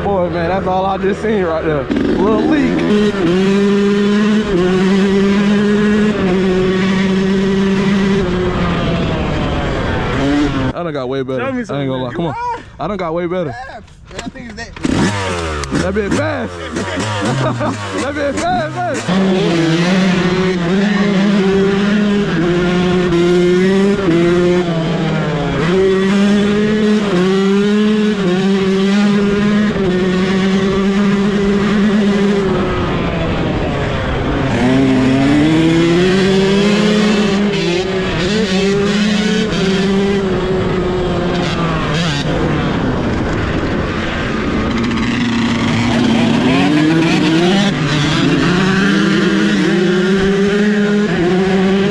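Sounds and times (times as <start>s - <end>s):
dirt bike engine revving: 0.0s - 10.8s, 14.7s - 51.9s.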